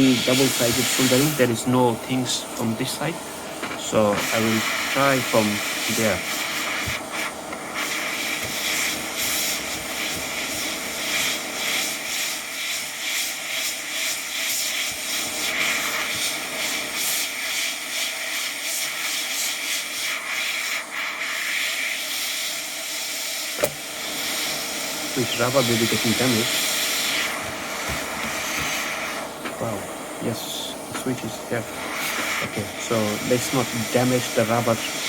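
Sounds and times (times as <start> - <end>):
hot air gun hissing: 0.0 - 35.0.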